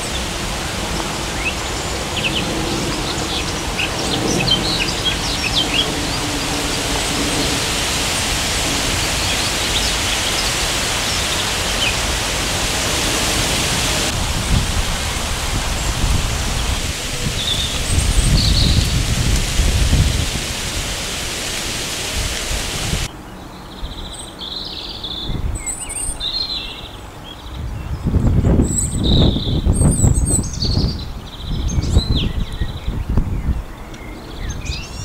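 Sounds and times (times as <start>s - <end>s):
small birds chirping: 0.0s - 35.0s
wind through tree foliage: 0.0s - 35.0s.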